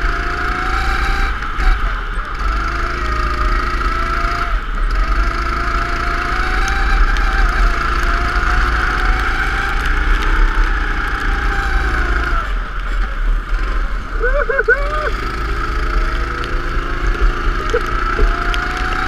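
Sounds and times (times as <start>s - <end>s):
go-kart engine running: 0.0s - 19.0s
steady rushing noise: 0.0s - 19.0s.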